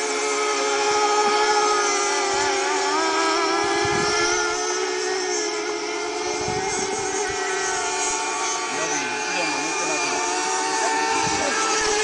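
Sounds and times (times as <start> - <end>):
model boat engines whining: 0.0 - 12.0.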